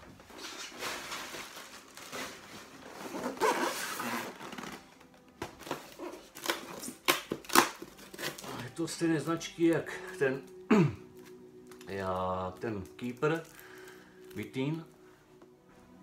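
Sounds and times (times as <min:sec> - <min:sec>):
cardboard packaging rustling: 0:00.0 - 0:14.9.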